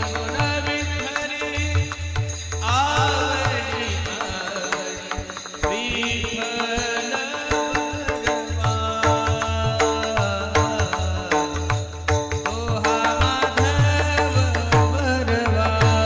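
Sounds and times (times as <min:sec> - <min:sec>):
hand drum beat: 0:00.0 - 0:16.0
man singing: 0:00.0 - 0:16.0.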